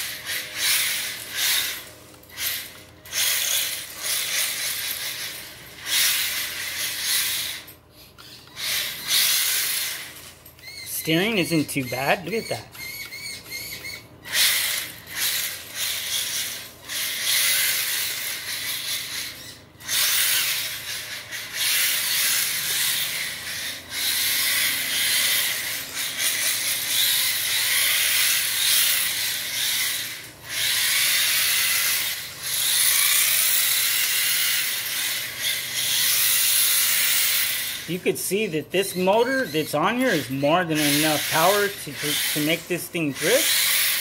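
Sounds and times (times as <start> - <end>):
electric toy car motor whirring: 0.0 - 44.0.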